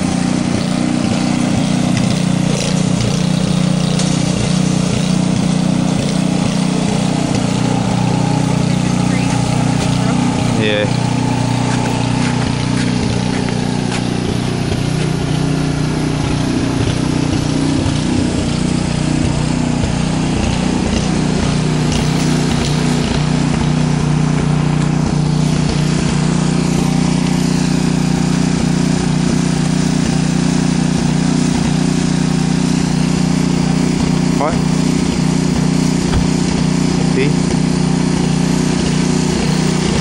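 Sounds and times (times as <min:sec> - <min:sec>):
snowblower engine running: 0:00.0 - 0:40.0.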